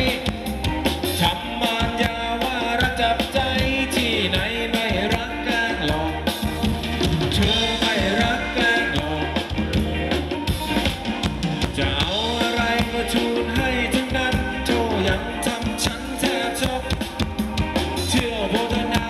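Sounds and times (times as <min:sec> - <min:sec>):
live band playing dance music: 0:00.0 - 0:19.0
steady drum beat: 0:00.0 - 0:19.0.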